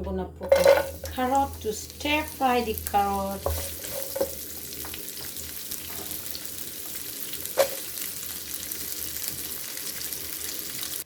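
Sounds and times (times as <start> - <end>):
carrots sizzling in oil: 0.6 - 11.0.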